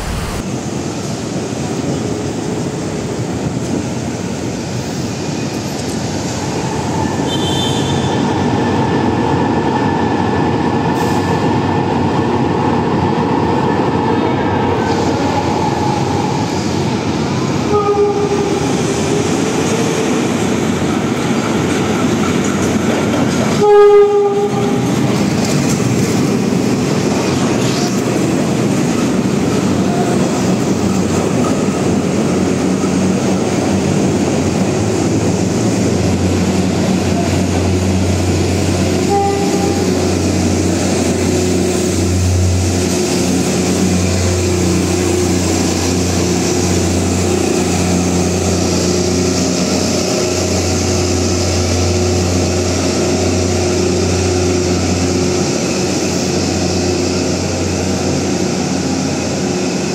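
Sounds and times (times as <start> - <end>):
diesel train engine drone: 0.0 - 59.9
rail and wheel noise: 0.0 - 59.9.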